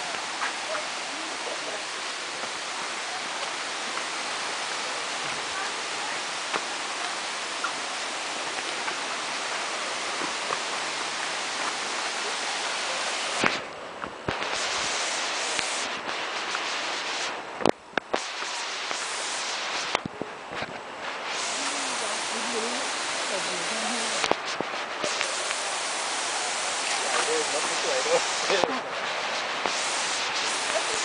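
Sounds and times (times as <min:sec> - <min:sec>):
stream water flowing: 0:00.0 - 0:31.0.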